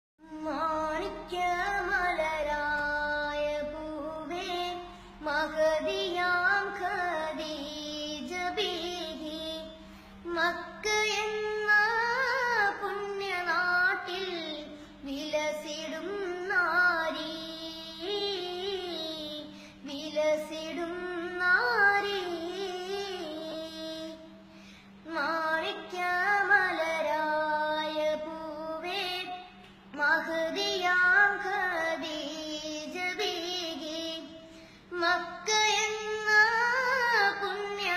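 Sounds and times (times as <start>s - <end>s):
boy singing unaccompanied: 0.2s - 24.4s, 25.0s - 37.9s
faint steady hum: 0.2s - 37.9s.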